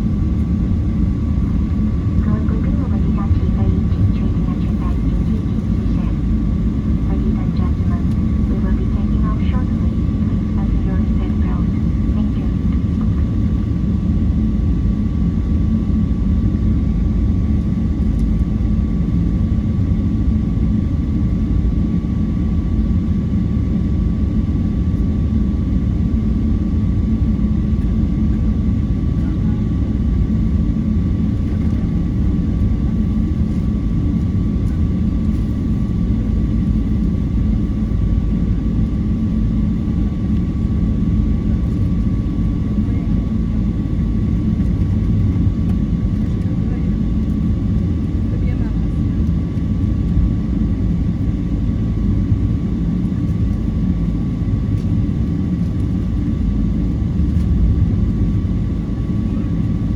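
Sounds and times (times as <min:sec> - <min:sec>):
airplane engine rumble: 0:00.0 - 0:59.9.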